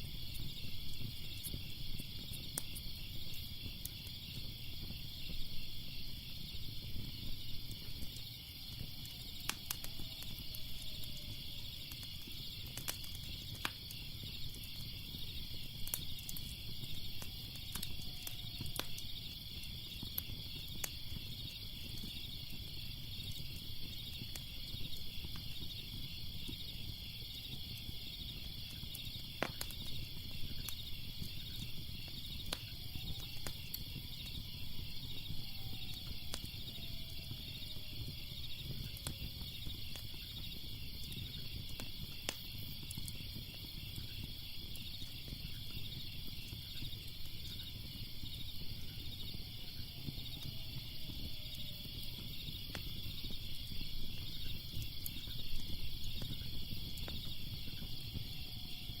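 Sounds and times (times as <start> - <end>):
crickets chirping: 0.0 - 59.0
fire crackling and popping: 0.0 - 59.0.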